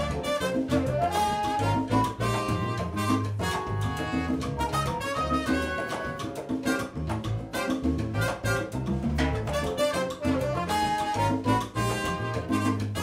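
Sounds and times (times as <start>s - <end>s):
salsa band playing live: 0.0s - 13.0s.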